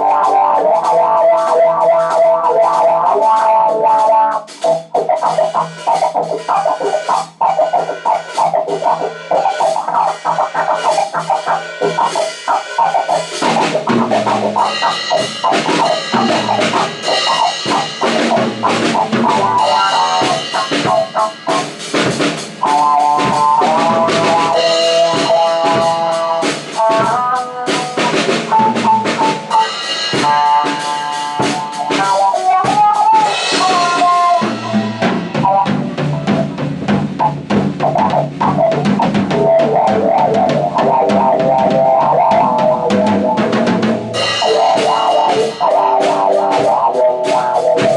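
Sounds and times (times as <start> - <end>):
drum kit beat: 0.0 - 47.9
lead melody: 0.0 - 47.9
bass part: 5.2 - 31.8, 33.4 - 47.9.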